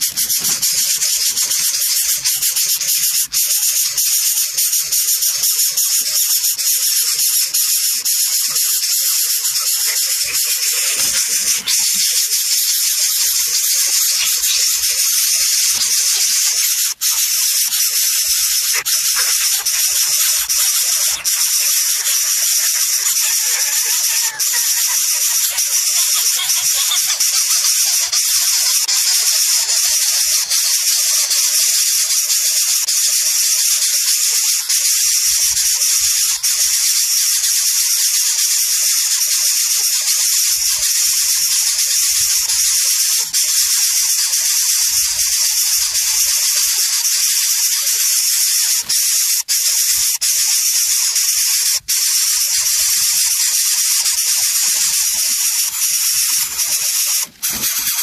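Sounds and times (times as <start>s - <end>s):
nestlings hissing: 0.0s - 58.0s.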